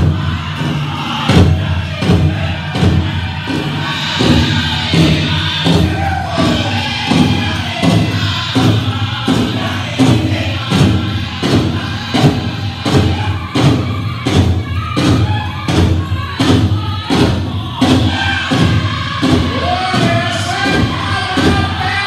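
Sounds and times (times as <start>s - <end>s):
big drum beat: 0.0s - 22.0s
group singing in high voices: 0.0s - 22.0s.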